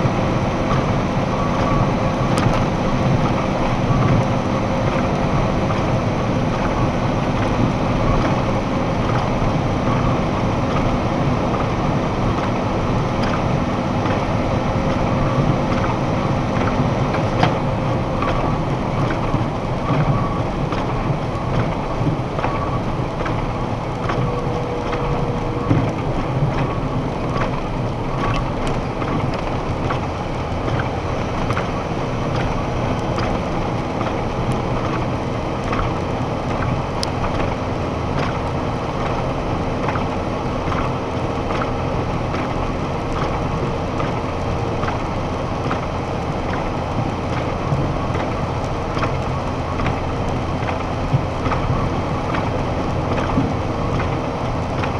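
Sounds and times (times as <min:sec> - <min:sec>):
truck engine and road noise: 0:00.0 - 0:54.9.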